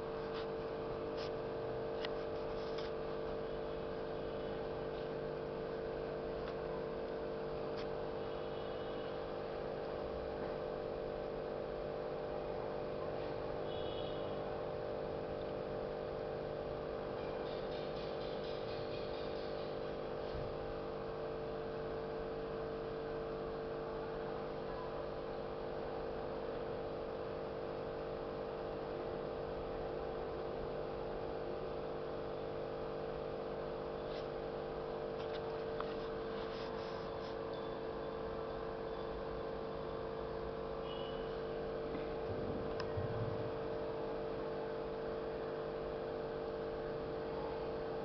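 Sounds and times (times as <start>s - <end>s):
steady mechanical hum: 0.0s - 48.0s.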